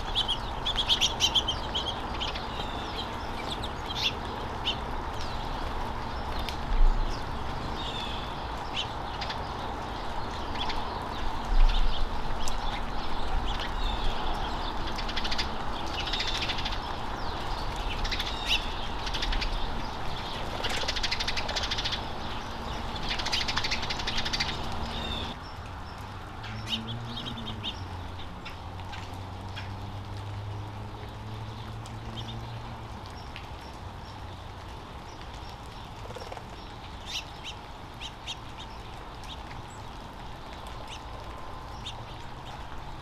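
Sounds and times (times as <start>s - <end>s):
small songbirds chirping: 0.0s - 43.0s.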